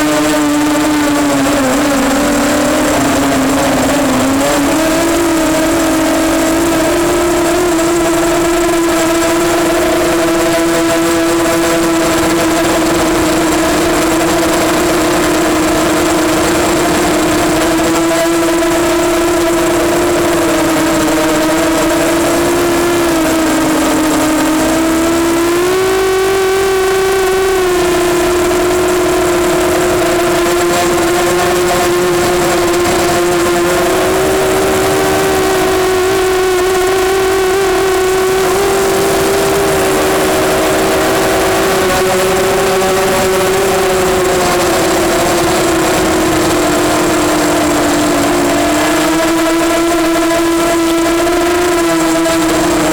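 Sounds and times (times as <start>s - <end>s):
quadcopter motors whining: 0.0s - 52.9s.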